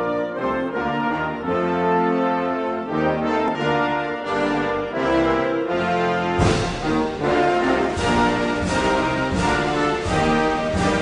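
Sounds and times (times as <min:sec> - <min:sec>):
orchestral brass chords: 0:00.0 - 0:11.0.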